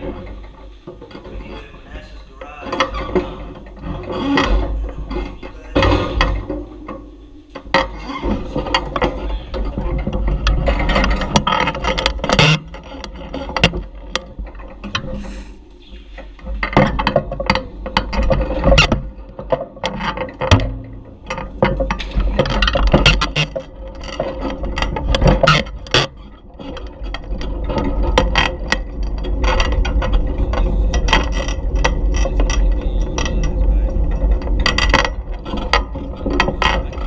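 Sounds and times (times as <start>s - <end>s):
bicycle rattling clicks and knocks: 0.0s - 37.0s
tires rumbling on concrete: 0.0s - 37.0s.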